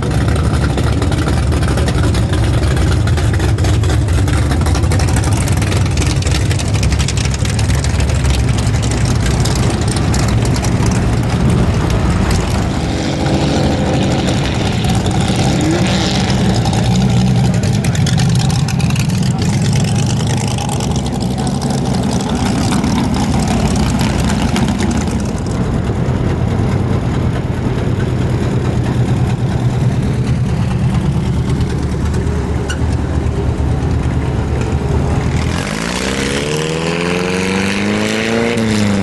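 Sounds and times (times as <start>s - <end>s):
car engines rumbling: 0.0s - 39.0s.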